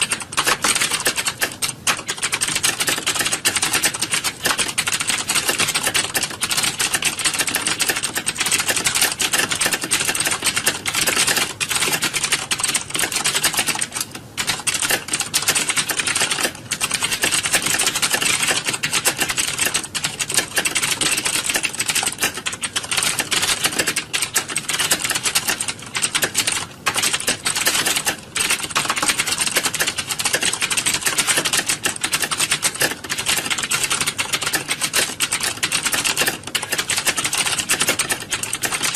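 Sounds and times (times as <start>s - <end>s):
many keyboards clattering: 0.0s - 38.9s.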